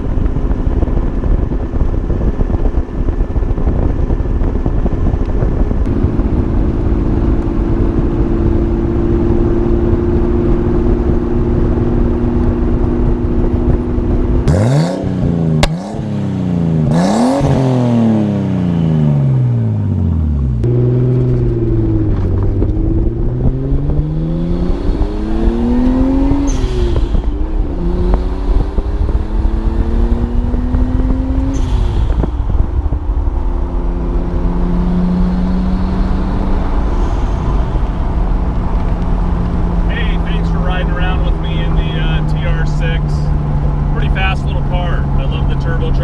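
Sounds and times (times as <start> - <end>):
wind rumbling on microphone: 0.0 - 46.0
car engine revving through gears: 5.1 - 46.0.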